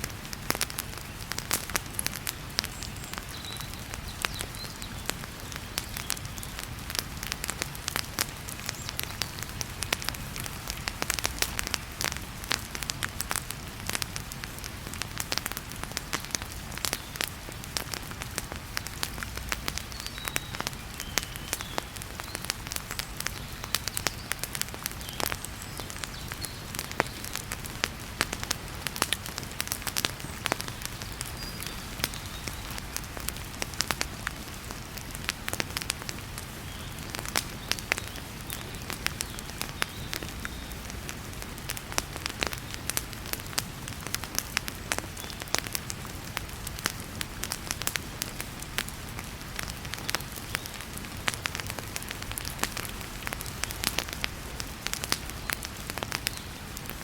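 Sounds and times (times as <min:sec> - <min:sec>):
heavy rain hiss: 0:00.0 - 0:57.0
wood fire crackling and popping: 0:00.0 - 0:57.0.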